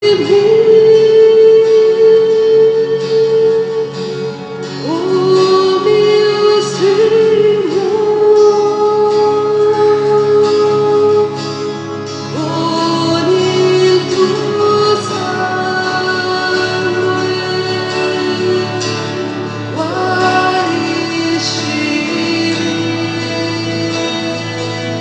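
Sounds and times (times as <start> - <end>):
singing with held wavering notes: 0.0 - 25.0.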